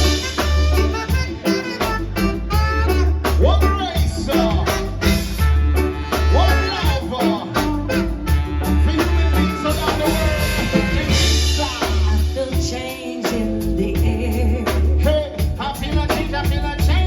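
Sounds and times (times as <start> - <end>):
bass guitar: 0.0 - 17.0
drum kit beat: 0.0 - 17.0.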